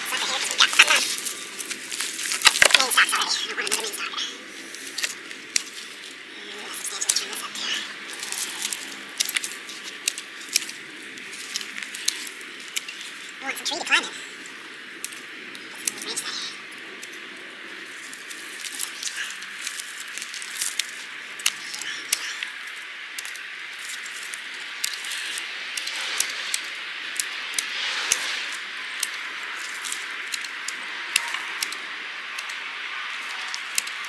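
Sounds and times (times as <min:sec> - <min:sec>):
pruning shears snipping: 0:00.0 - 0:13.2, 0:15.0 - 0:34.0
steady hiss: 0:00.0 - 0:34.0
stems rustling: 0:00.0 - 0:34.0.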